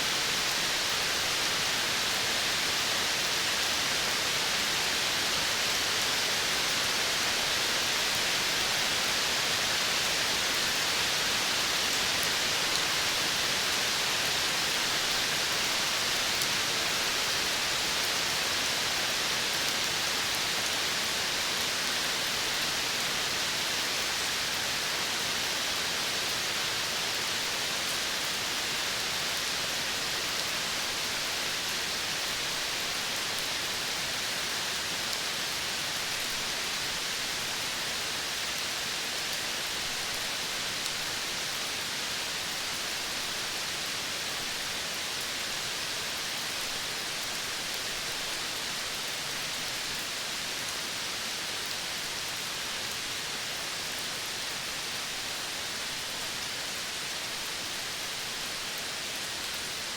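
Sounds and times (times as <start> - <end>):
outdoor ambience hiss: 0.0 - 59.9.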